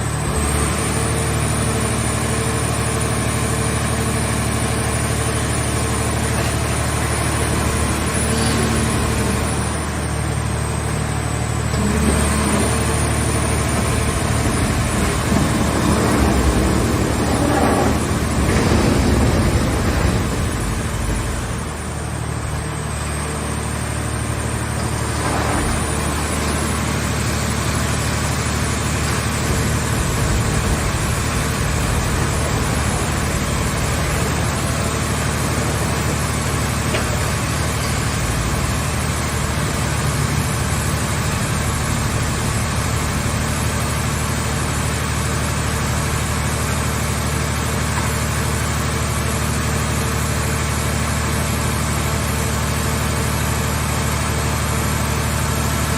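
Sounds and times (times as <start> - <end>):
baler engine running: 0.0 - 46.5.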